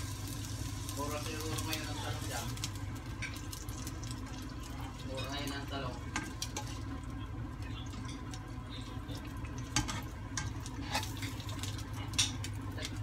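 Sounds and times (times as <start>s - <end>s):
oil frying in a pan: 0.0s - 13.0s
steady low hum: 0.0s - 13.0s.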